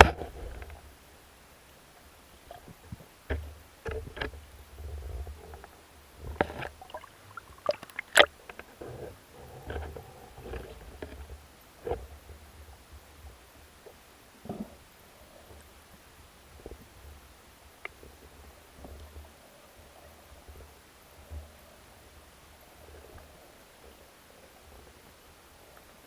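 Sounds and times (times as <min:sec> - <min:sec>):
underwater rumble of moving water: 0:00.0 - 0:25.8.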